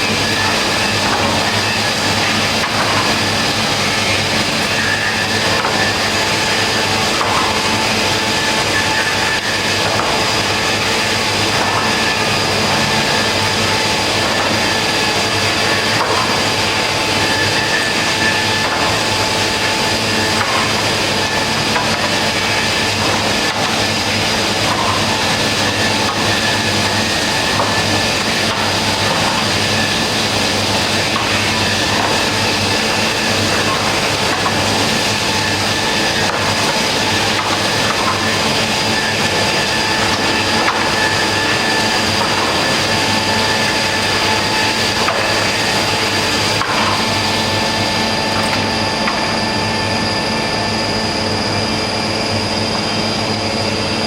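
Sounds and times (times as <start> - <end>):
woodworking machine whining: 0.0 - 54.0.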